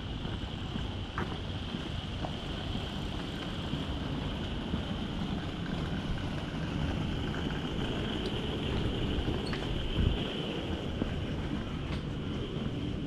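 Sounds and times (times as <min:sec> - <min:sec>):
residential street ambience: 0:00.0 - 0:13.0
wind rumbling on microphone: 0:00.0 - 0:13.0.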